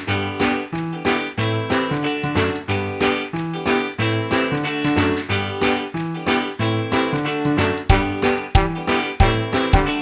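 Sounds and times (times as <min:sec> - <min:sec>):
plucked guitar music: 0:00.0 - 0:10.0.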